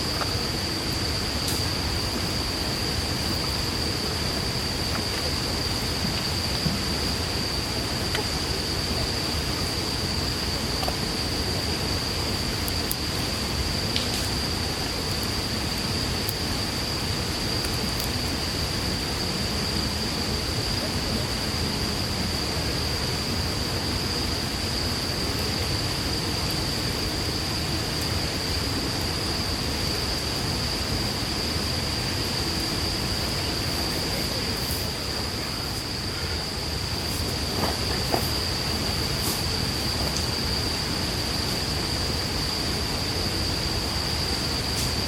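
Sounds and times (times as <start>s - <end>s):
fire crackles: 0.0s - 21.8s, 22.4s - 45.0s
campfire burning: 0.0s - 45.0s.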